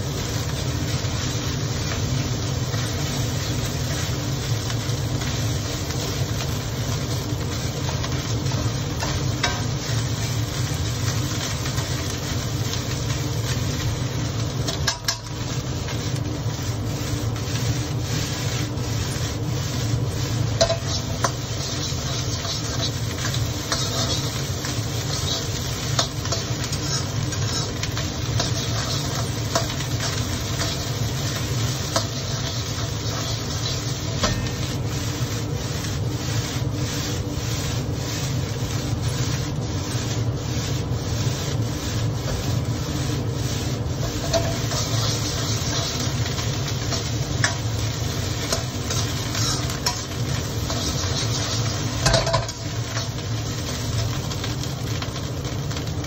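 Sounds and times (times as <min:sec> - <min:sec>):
rice sizzling in a wok: 0:00.0 - 0:56.0
metal spatula scraping a wok: 0:02.6 - 0:55.0.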